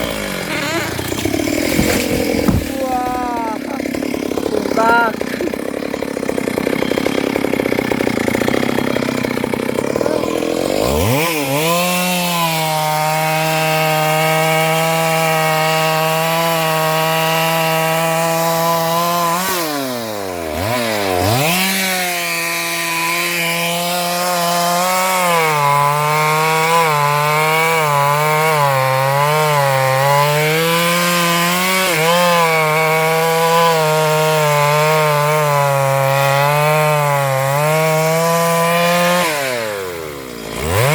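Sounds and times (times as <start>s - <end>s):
chainsaw cutting through trunk: 0.0s - 40.9s.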